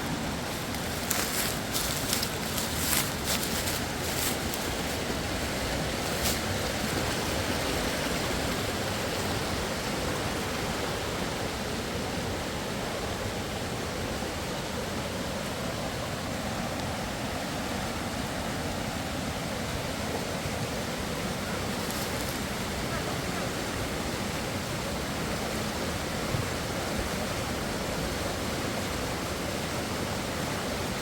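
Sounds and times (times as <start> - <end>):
fast-flowing river rushing: 0.0 - 31.0.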